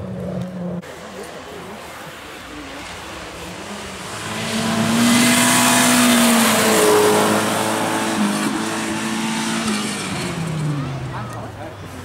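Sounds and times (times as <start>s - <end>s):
rally car engine at high revs: 0.0s - 11.4s
tyre and road noise: 0.0s - 12.0s.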